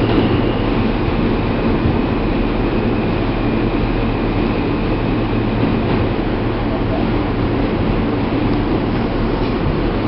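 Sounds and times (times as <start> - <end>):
subway car rumbling on rails: 0.0 - 10.0.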